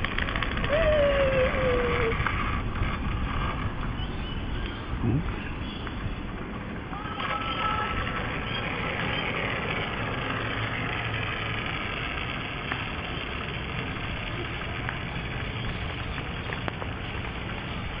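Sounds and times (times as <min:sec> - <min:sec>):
pulley rolling along cable: 0:00.0 - 0:04.8, 0:06.6 - 0:18.0.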